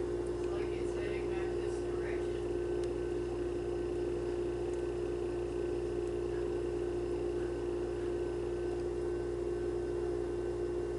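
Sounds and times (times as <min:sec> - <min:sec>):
steady indoor hum: 0:00.0 - 0:10.9.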